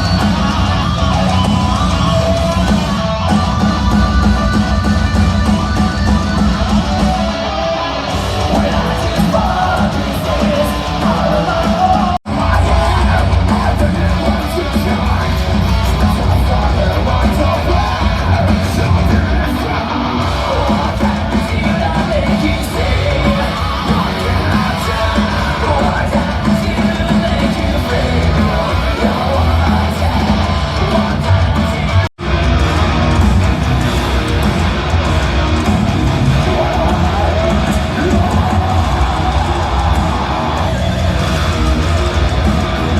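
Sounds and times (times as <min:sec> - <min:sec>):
heavy metal band playing: 0:00.0 - 0:42.9.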